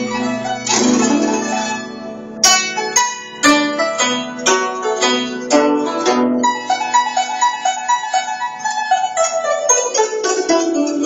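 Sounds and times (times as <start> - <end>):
zither strings plucked: 0.0 - 11.0.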